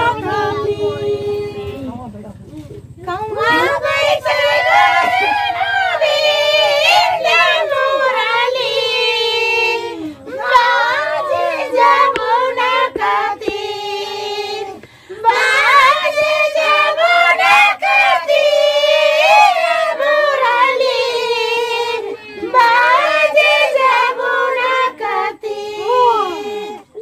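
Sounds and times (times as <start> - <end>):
women singing folk song: 0.0 - 2.0, 3.0 - 27.0.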